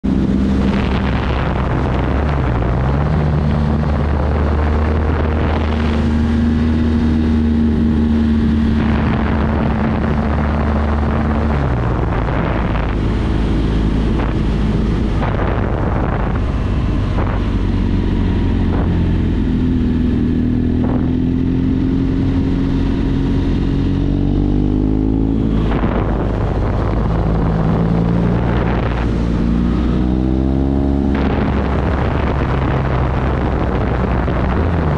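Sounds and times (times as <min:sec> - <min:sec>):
motorcycle engine revving: 0:00.0 - 0:34.9
wind rush on microphone: 0:00.0 - 0:34.9.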